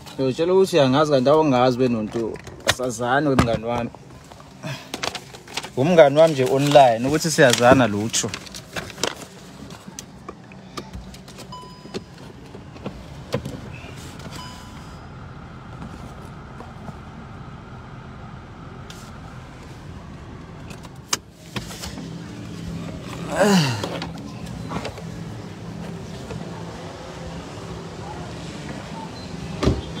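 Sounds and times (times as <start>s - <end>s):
car engine and road hum: 0.0s - 30.0s.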